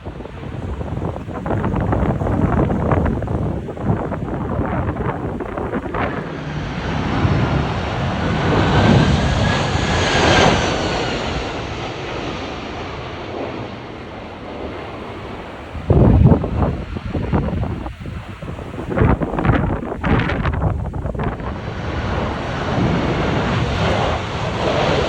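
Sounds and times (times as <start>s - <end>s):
jet airliner passing overhead: 0.0s - 25.0s
wind buffeting microphone: 0.0s - 25.0s.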